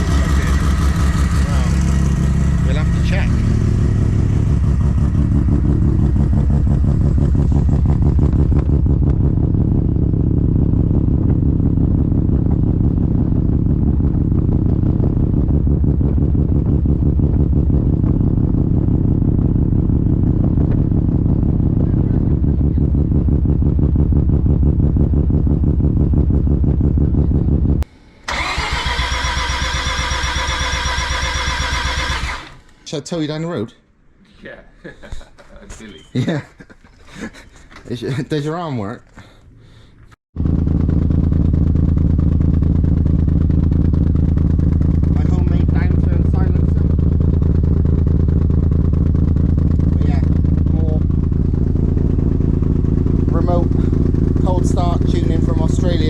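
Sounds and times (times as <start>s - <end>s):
rotary engine idling choppy exhaust: 0.0s - 32.6s, 40.4s - 56.0s
engine running with higher tone: 0.0s - 32.8s, 40.4s - 56.0s.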